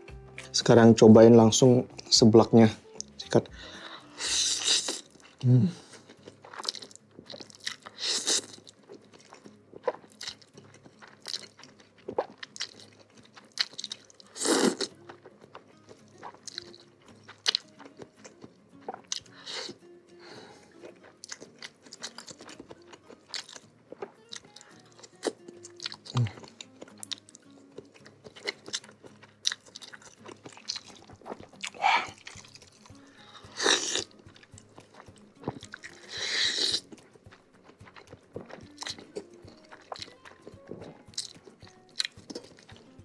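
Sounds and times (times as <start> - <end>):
quiet background music: 0.0 - 43.0
chewing and crunching: 2.8 - 43.0.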